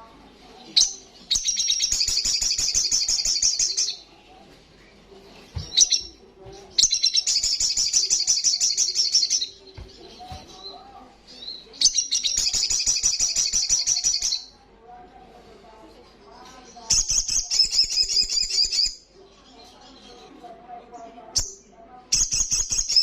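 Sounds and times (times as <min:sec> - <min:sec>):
bird chattering song: 0:00.6 - 0:04.1, 0:05.0 - 0:14.5, 0:16.6 - 0:20.4, 0:21.0 - 0:23.0.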